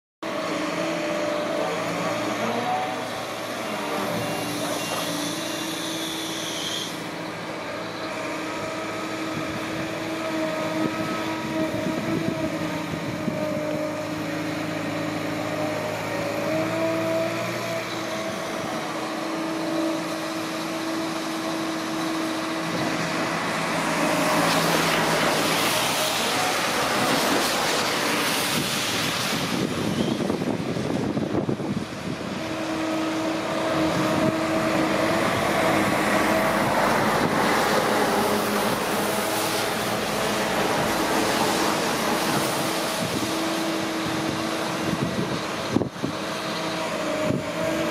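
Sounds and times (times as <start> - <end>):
diesel engine and hydraulics droning: 0.2 - 47.9
rushing noise: 0.7 - 47.9.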